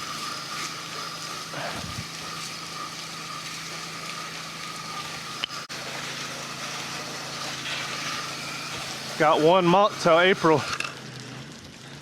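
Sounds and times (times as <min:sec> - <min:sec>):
hiss of water spray: 0:00.0 - 0:12.0
pressure washer engine hum: 0:00.0 - 0:12.0.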